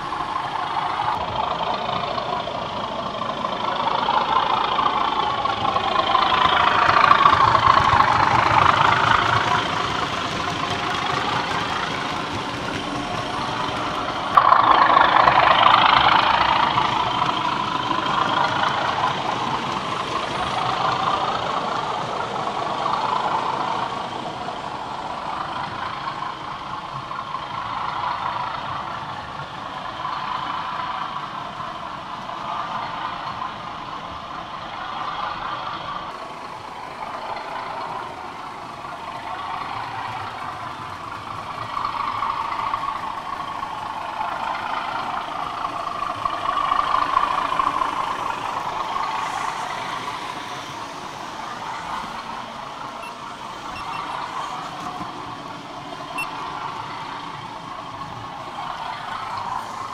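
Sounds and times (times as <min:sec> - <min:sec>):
diesel engine sound from speaker: 0:00.0 - 0:59.9.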